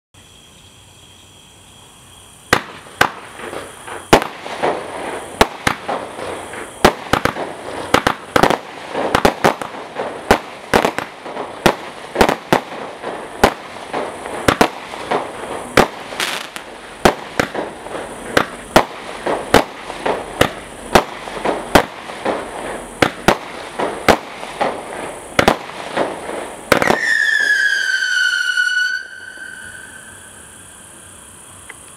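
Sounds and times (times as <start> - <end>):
crackling firework bursts: 2.3 - 31.3
firework shots firing: 2.5 - 30.0.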